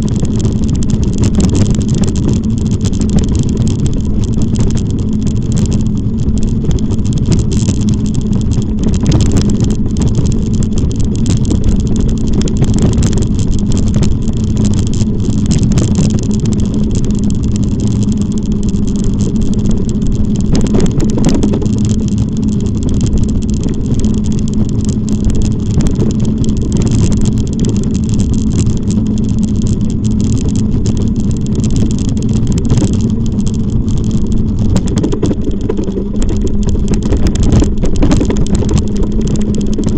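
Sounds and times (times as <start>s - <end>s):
low hum: 0.0s - 39.9s
wind and riding noise on microphone: 0.0s - 39.9s.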